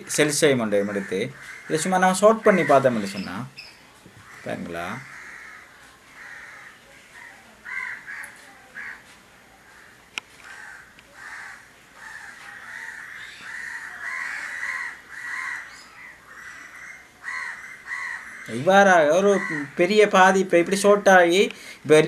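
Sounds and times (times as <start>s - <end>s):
crows cawing: 0.7s - 3.5s, 4.2s - 21.8s.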